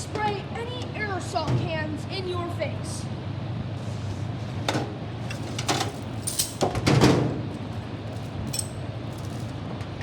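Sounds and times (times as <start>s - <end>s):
steady low hum: 1.9s - 10.0s.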